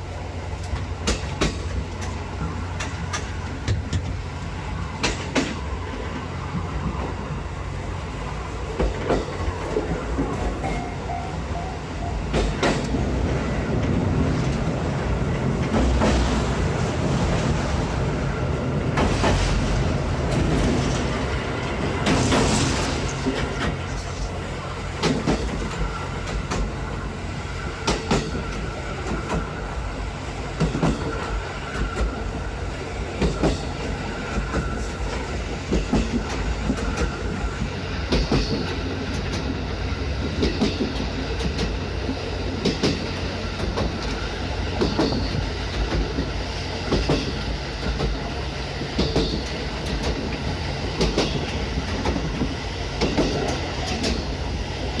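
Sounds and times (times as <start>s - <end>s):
train low rumble: 0.0s - 55.0s
train wheels clacking: 0.6s - 4.2s, 4.9s - 7.5s, 8.7s - 17.6s, 18.9s - 26.9s, 27.5s - 29.8s, 30.5s - 54.4s.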